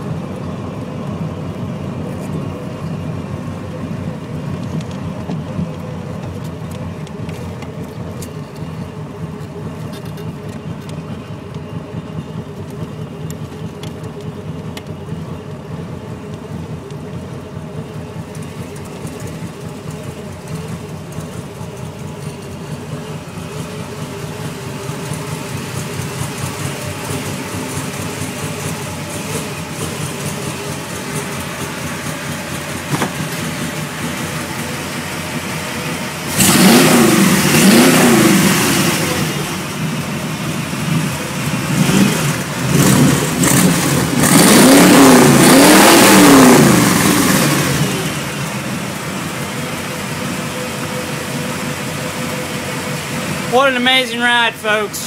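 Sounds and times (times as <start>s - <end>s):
car engine rumbling: 0.0s - 55.0s.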